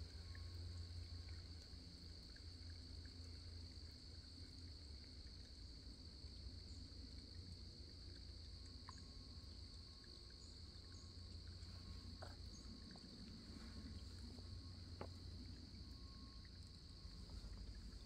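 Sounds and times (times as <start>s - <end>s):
faint ticks: 0.0s - 5.8s, 6.6s - 18.0s.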